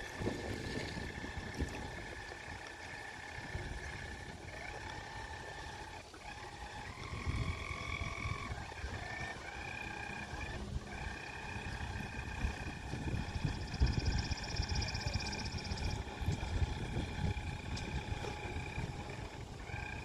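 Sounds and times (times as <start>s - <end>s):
toy boat motor whining: 0.0s - 20.0s.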